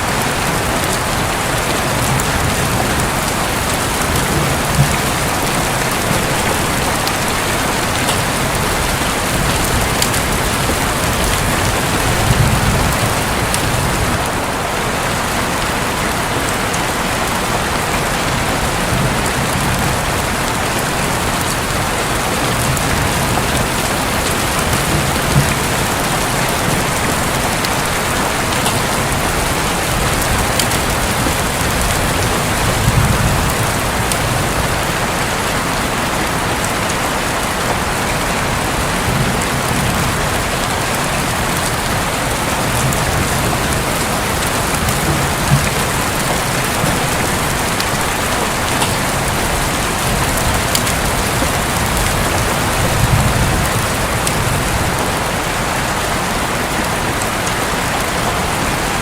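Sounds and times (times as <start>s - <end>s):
thunder rumbling: 0.0s - 15.6s, 16.4s - 56.0s
heavy rain on a roof: 0.0s - 59.0s.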